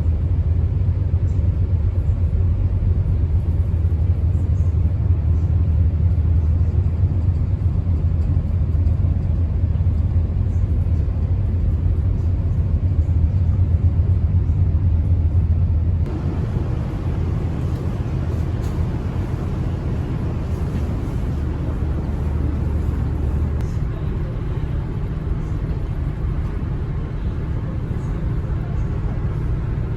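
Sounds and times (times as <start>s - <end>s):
low engine drone: 0.0s - 29.9s.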